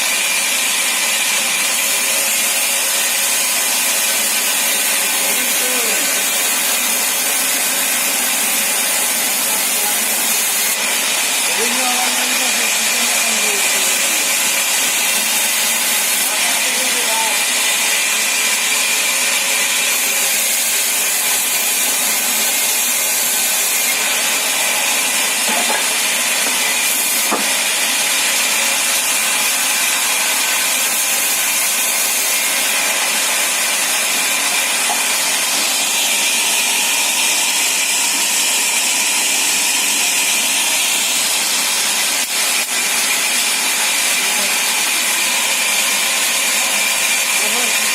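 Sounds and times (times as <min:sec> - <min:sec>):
saw cutting through wood: 0:00.0 - 0:47.9.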